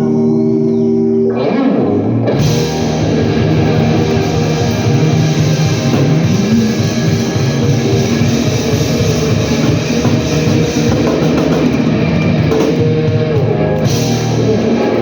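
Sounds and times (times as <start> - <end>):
blues-rock band playing live: 1.8 - 15.0.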